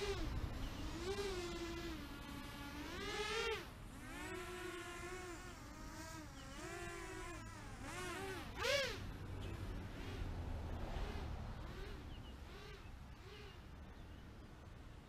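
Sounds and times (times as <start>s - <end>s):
quadcopter motors buzzing: 0.0s - 14.2s.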